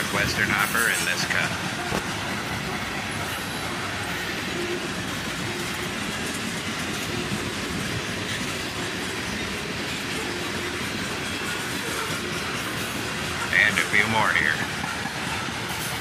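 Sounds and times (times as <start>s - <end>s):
freight train wheels clattering: 0.0s - 16.0s.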